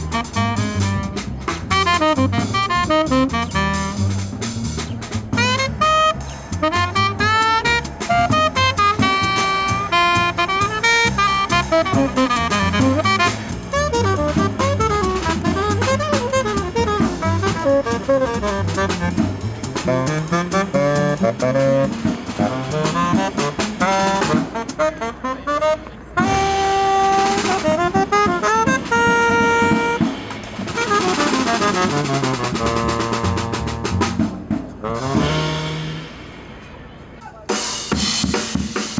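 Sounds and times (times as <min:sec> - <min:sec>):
saxophone melody: 0:00.0 - 0:36.6
drum kit steady beat: 0:00.0 - 0:38.9.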